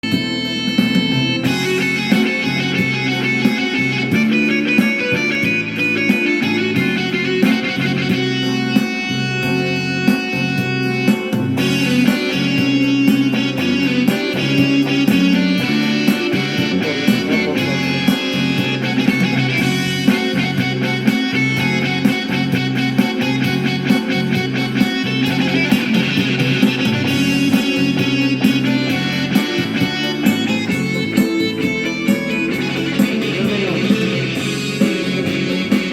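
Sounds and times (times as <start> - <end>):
bass line: 0.0 - 35.9
keyboard guitar-like melody: 0.0 - 35.9
steady beat: 0.0 - 35.9.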